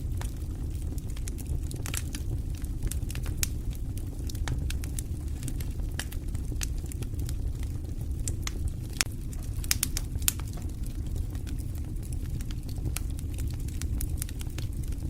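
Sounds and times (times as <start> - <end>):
fire crackling and popping: 0.0 - 15.0
fire roaring: 0.0 - 15.0.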